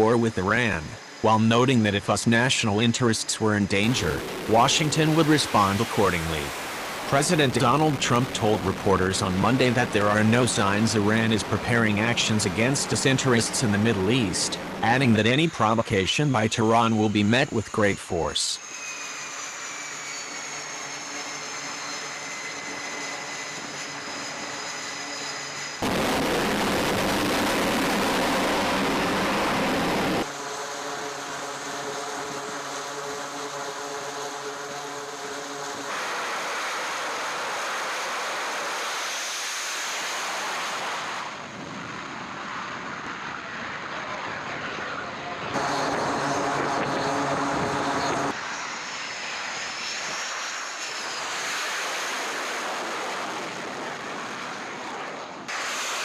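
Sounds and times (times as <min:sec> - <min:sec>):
jet engine rushing blast: 0:00.0 - 0:16.3, 0:18.6 - 0:56.0
jet engine whine: 0:00.0 - 0:56.0.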